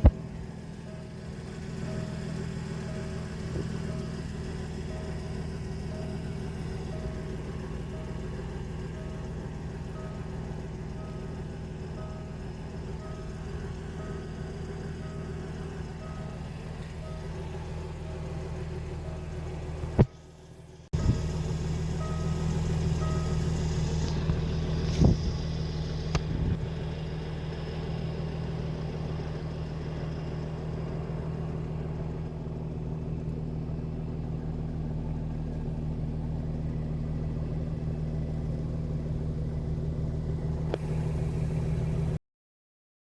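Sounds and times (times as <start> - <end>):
car engine idling: 0.0 - 42.2.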